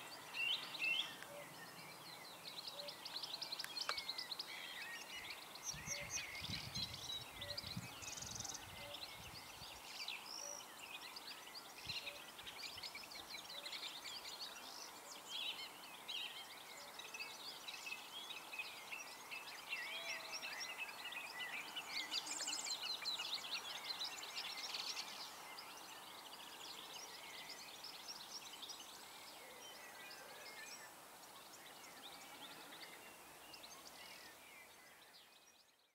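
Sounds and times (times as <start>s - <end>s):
wild birds chirping and singing: 0.0s - 35.9s.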